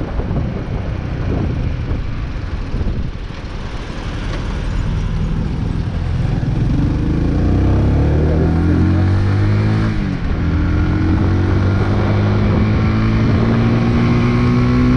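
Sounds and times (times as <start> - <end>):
wind rushing: 0.0 - 14.9
motorcycle engine accelerating: 1.2 - 14.9.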